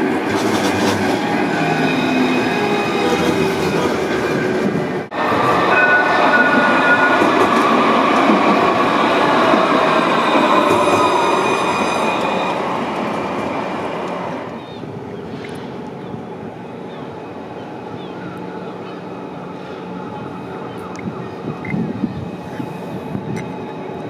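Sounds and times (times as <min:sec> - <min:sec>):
quiet street background: 0:00.0 - 0:24.0
tram drive whining: 0:00.0 - 0:24.0.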